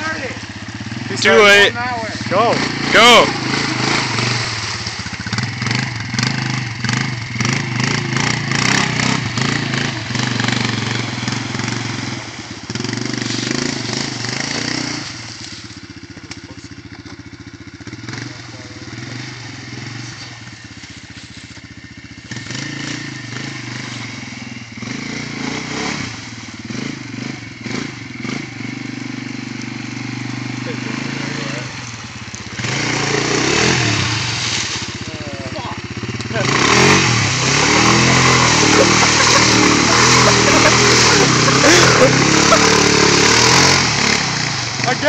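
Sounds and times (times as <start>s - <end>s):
quad bike engine revving: 0.0s - 45.0s.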